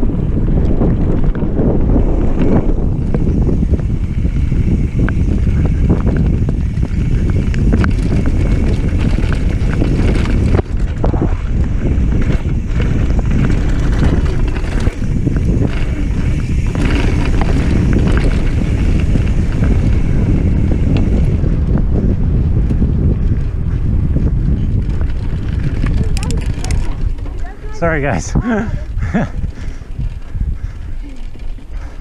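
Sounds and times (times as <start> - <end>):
bike tyres clicking and rattling: 0.0 - 32.0
wind rumble on microphone: 0.0 - 32.0.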